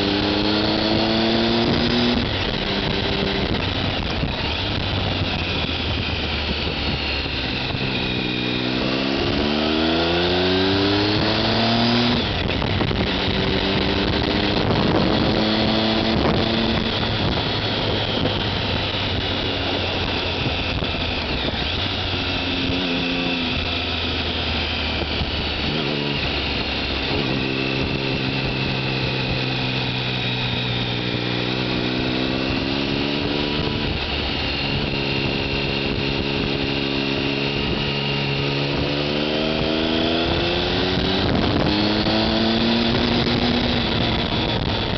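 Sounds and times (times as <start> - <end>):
motorcycle engine accelerating: 0.0 - 44.9
wind and road noise: 0.0 - 44.9.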